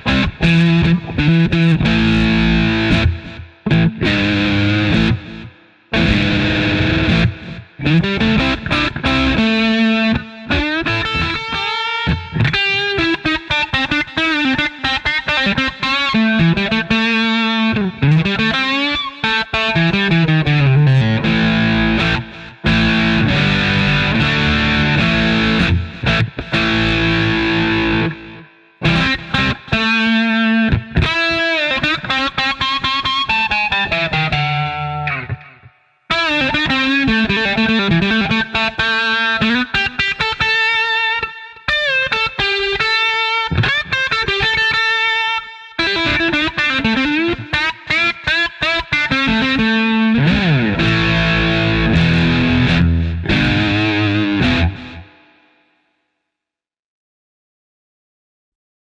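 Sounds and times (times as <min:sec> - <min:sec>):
distorted electric guitar: 0:00.0 - 0:55.8.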